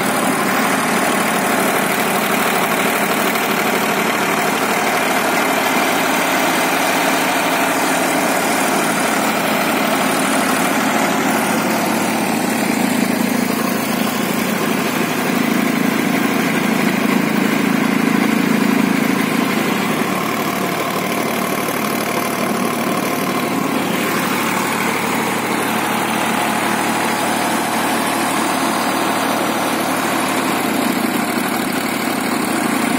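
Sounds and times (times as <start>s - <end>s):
tractor diesel engine idling: 0.0s - 32.9s.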